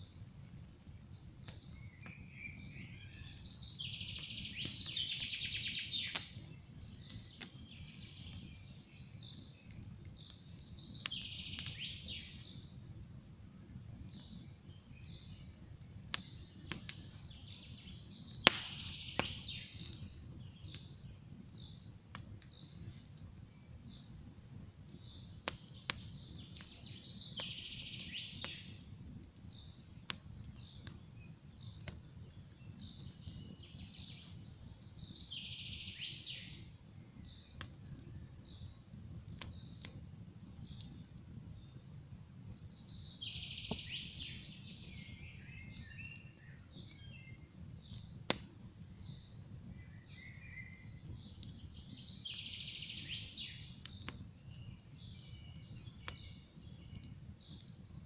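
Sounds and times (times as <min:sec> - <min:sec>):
soft bird chirps: 0:00.0 - 0:13.0, 0:14.0 - 0:24.3, 0:24.9 - 0:58.0
songbird singing: 0:00.0 - 0:13.2, 0:14.0 - 0:24.3, 0:24.9 - 0:58.0
campfire crackling and popping: 0:00.0 - 0:58.0.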